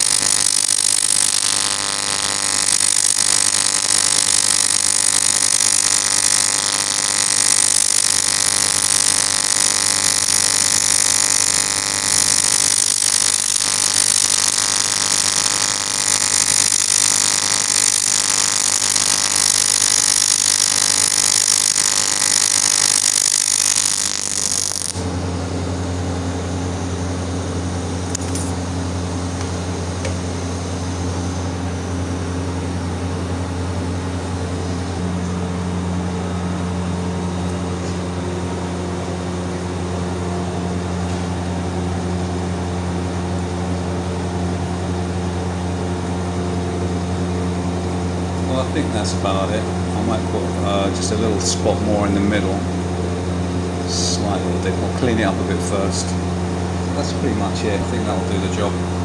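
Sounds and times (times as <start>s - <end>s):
steady low hum: 0.0s - 59.0s
welding arc buzzing hiss: 0.0s - 59.0s.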